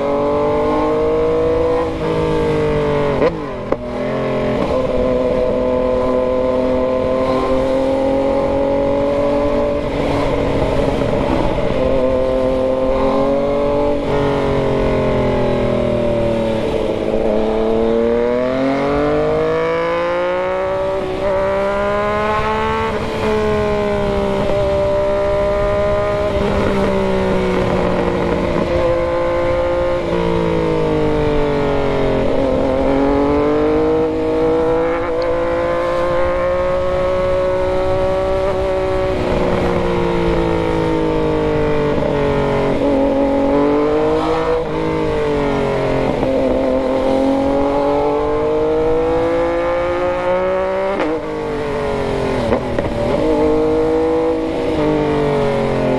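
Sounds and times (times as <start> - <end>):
motorcycle engine under load: 0.0 - 55.9.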